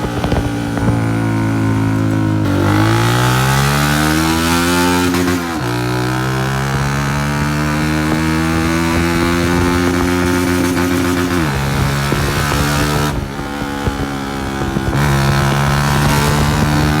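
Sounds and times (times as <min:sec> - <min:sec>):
loud motorcycle engine running: 0:00.0 - 0:17.0.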